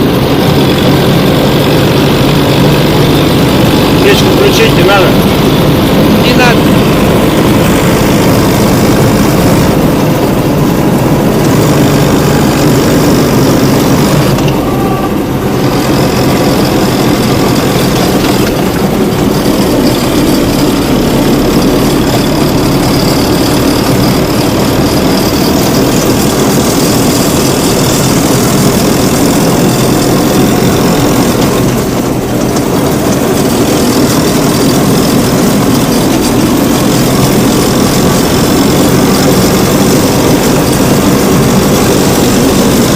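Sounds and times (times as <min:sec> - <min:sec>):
small tractor engine running: 0:00.0 - 0:42.9.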